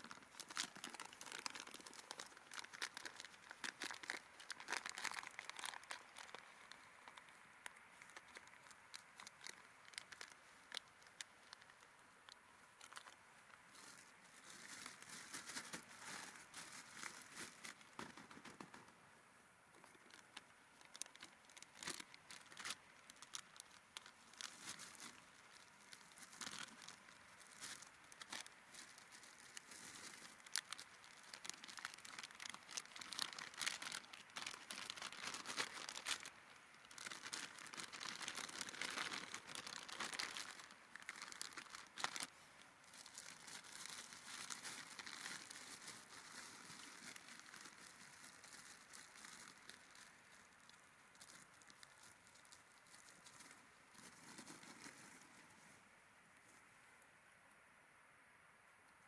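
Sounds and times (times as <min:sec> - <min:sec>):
faint crinkly rustling: 0:00.0 - 0:57.8.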